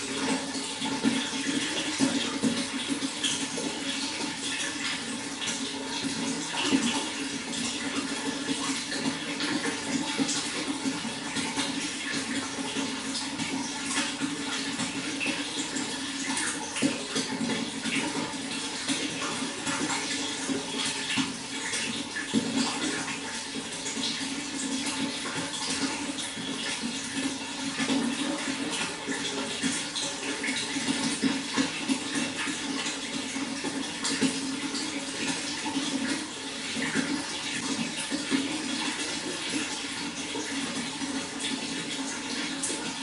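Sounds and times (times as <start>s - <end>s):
water flowing and splashing: 0.0s - 43.0s.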